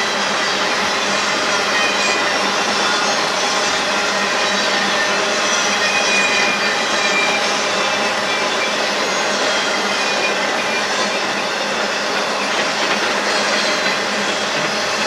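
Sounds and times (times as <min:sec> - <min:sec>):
wheels rattling on rail: 0:00.0 - 0:15.0
faint high wheel squeal: 0:00.3 - 0:15.0.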